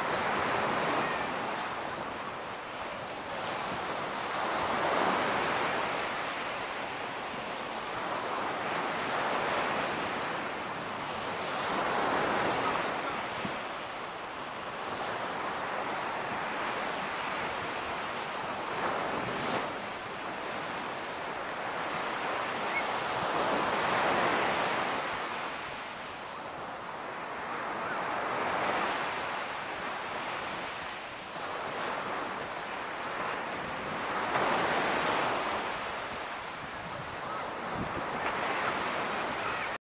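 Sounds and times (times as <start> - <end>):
ocean surf breaking on shore: 0.0 - 39.8.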